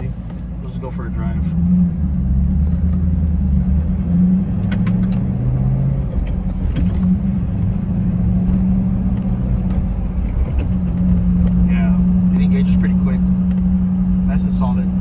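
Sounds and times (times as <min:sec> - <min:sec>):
car engine drone from inside cabin: 0:00.0 - 0:15.0
road noise: 0:00.0 - 0:15.0.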